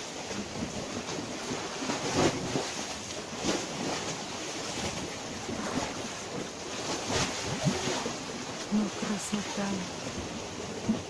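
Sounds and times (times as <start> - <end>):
small waves washing onto beach: 0.0 - 11.0
wind on microphone: 0.0 - 11.0.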